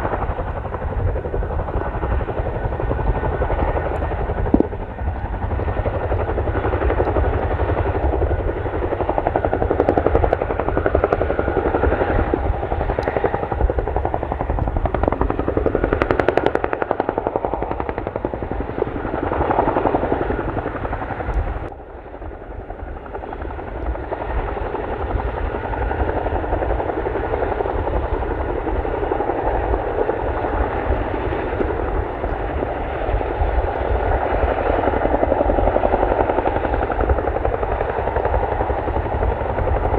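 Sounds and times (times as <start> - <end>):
helicopter engine noise: 0.0 - 39.9
helicopter rotors chopping: 0.0 - 39.9.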